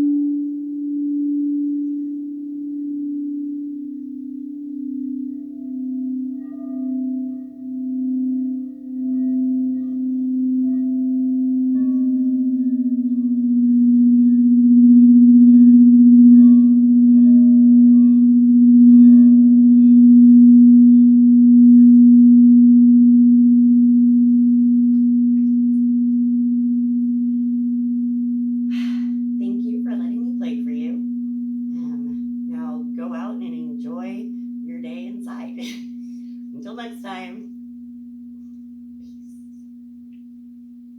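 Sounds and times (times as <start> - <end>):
singing bowl low tone: 0.0 - 40.9.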